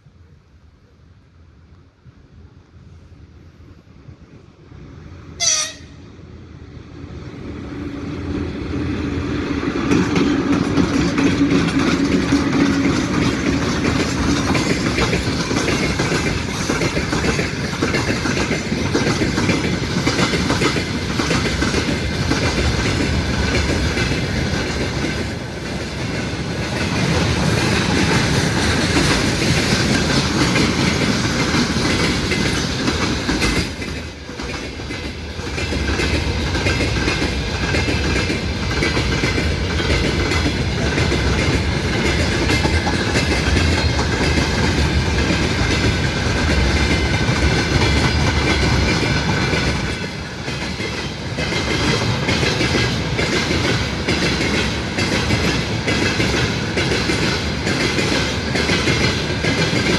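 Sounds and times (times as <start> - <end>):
train wheels clattering over rail joints: 8.3 - 59.9.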